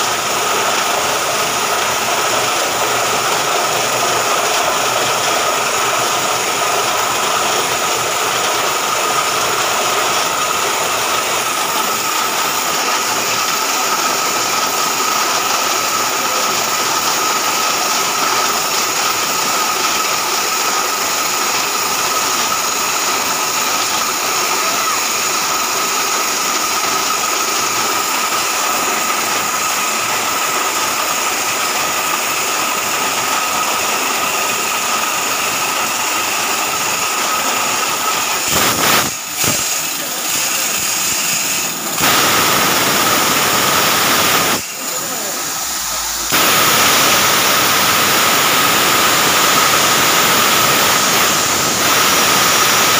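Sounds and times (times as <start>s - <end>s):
drilling rig running: 0.0s - 52.9s
steady mechanical whine: 0.0s - 52.9s.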